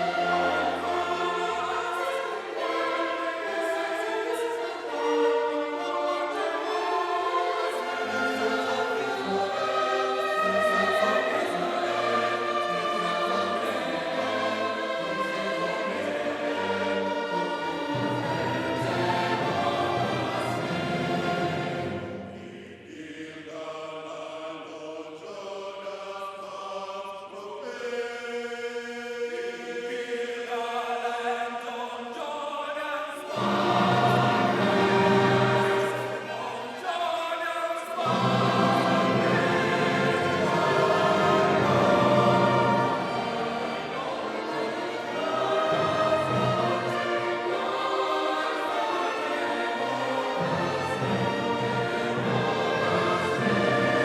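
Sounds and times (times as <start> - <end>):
choir singing in parts: 0.0 - 54.0.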